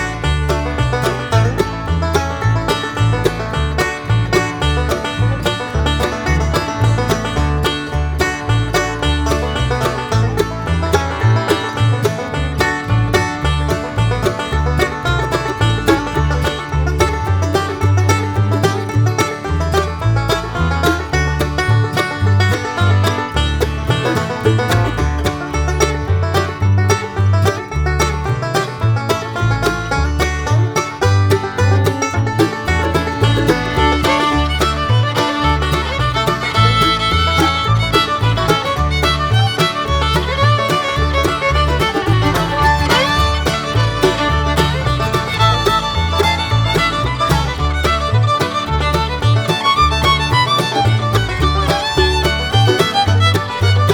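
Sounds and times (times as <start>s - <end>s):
bluegrass banjo and fiddle music: 0.0s - 53.9s.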